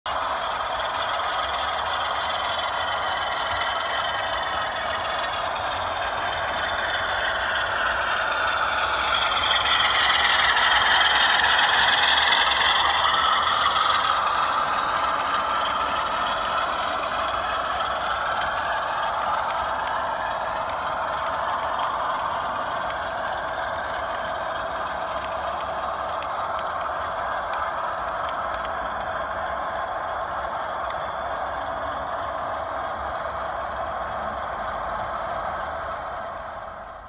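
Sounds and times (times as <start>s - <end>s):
model trains running: 0.1s - 37.0s.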